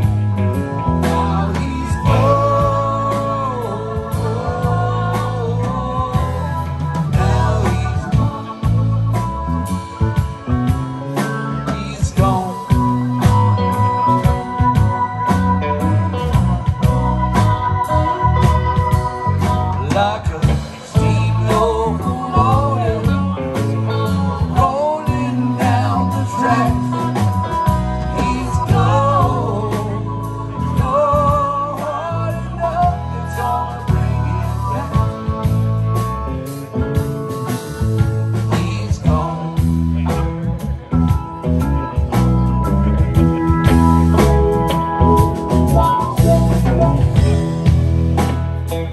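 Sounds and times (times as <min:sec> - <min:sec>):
bass guitar: 0:00.0 - 0:48.9
drums beating steadily: 0:00.0 - 0:48.9
electric guitars: 0:00.0 - 0:48.9
live rock band playing: 0:00.0 - 0:48.9.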